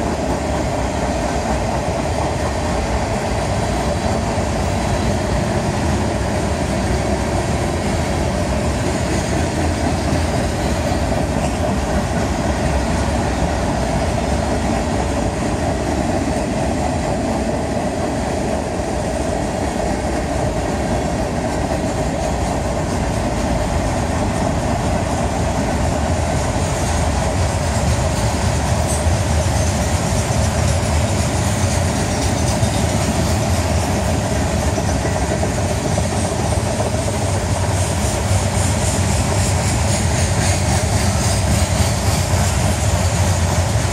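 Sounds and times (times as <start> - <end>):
train wheels rolling on rails: 0.0 - 43.9.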